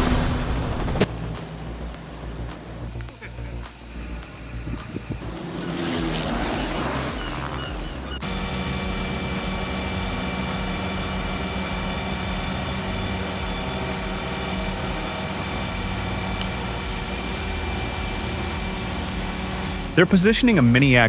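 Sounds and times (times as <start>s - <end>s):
heavy machinery engine humming: 0.0s - 21.0s.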